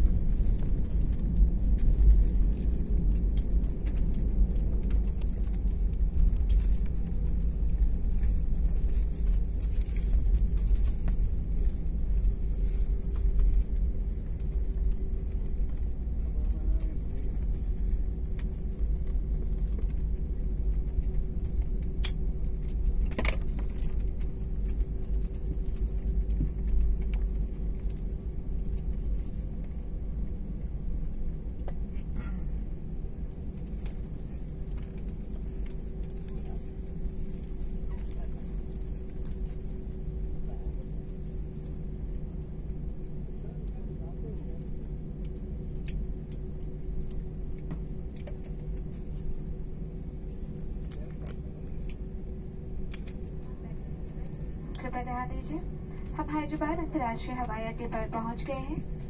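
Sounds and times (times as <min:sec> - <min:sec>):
jet cabin rumble of wheels and engines: 0:00.0 - 0:59.0.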